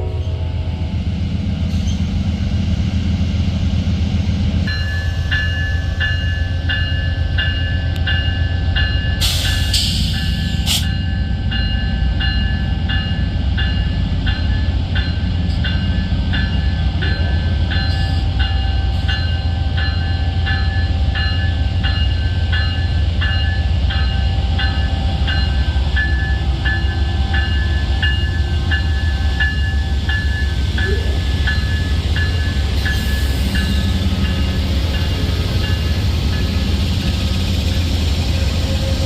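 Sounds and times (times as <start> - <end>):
railroad warning bell ringing: 0.0 - 2.5, 4.6 - 39.0
diesel locomotive rumble: 0.0 - 39.0.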